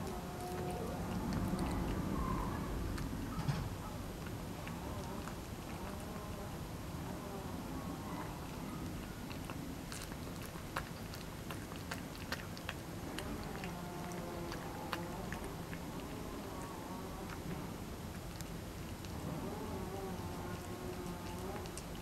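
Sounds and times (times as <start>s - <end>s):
cat chewing and licking: 0.0s - 3.4s, 4.0s - 22.0s.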